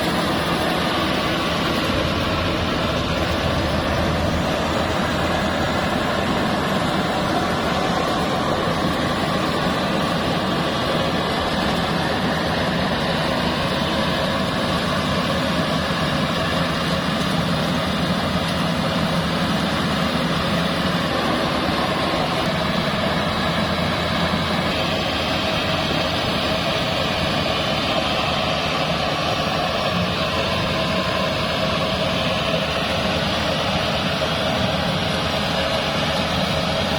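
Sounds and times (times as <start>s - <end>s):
rice thresher droning: 0.0s - 36.9s.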